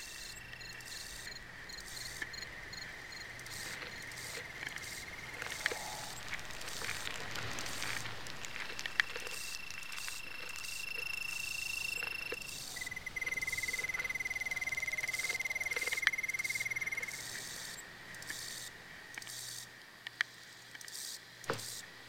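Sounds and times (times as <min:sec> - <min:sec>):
insect high trill: 0:00.0 - 0:18.7
high insect chirps: 0:00.0 - 0:19.7.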